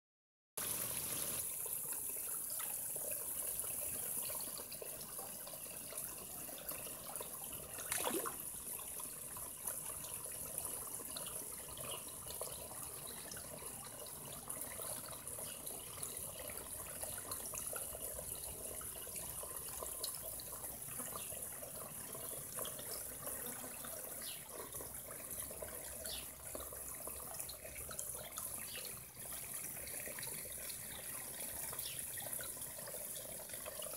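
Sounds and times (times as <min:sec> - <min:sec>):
water drips and plops: 0:00.6 - 0:33.9
water trickling into pond: 0:00.6 - 0:33.9.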